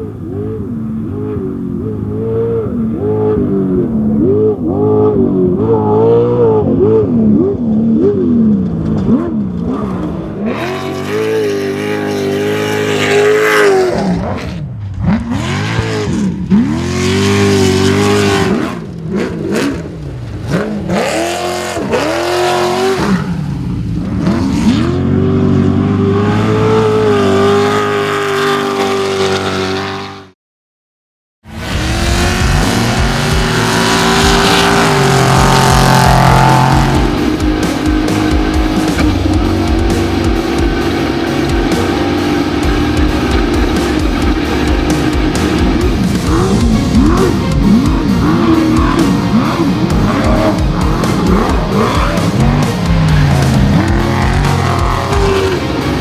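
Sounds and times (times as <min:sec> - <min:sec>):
race vehicle engine revving: 0:00.0 - 0:30.4, 0:31.5 - 0:56.0.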